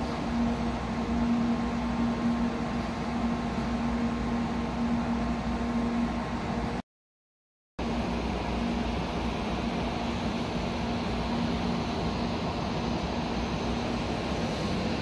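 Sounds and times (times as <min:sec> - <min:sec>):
cooling blowers whooshing: 0:00.0 - 0:06.8, 0:07.8 - 0:15.0.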